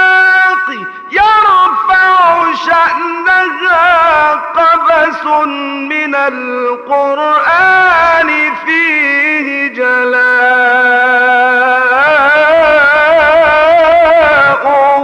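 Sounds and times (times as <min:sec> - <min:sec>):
man chanting devotional hymn: 0:00.0 - 0:15.0.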